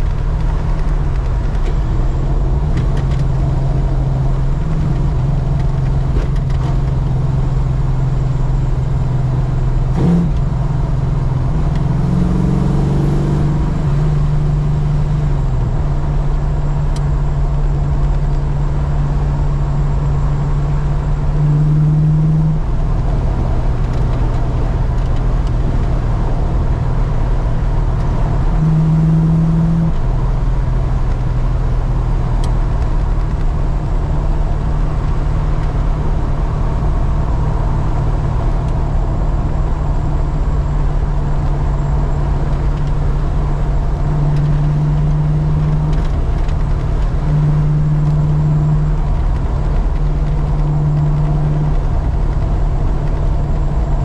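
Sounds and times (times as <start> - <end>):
car engine revving while driving: 0.0 - 54.0.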